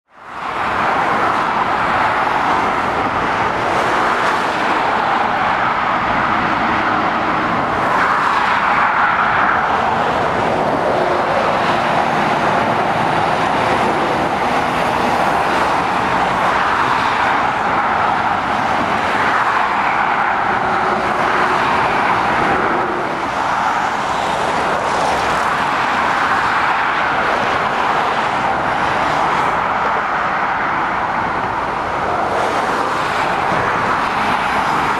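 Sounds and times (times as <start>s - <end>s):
vehicles passing at speed: 0.1s - 34.9s.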